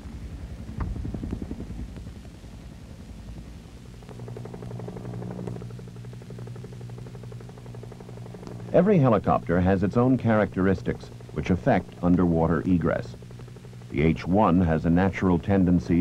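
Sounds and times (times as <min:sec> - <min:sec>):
helicopter droning: 0:00.0 - 0:16.0
low irregular rumbling: 0:00.0 - 0:16.0.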